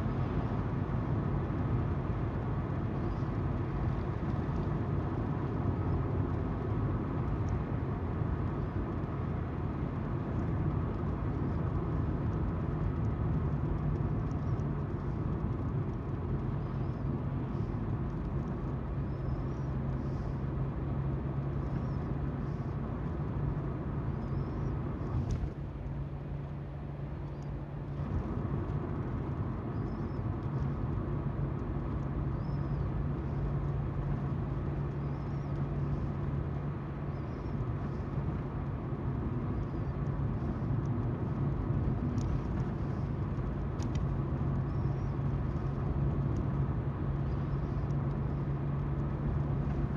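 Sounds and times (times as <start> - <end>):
car engine hum: 0.0 - 49.9.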